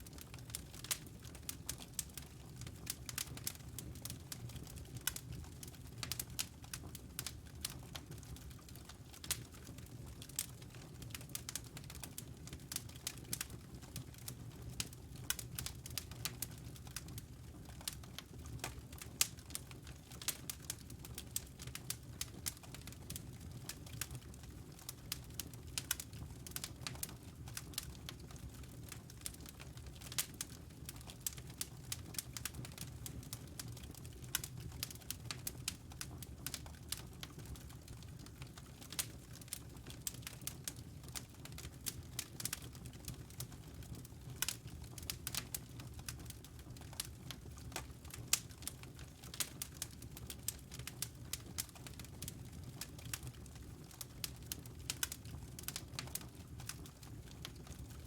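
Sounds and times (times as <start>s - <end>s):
wood fire crackling and popping: 0.0s - 58.0s
low fire rumble: 0.1s - 58.0s.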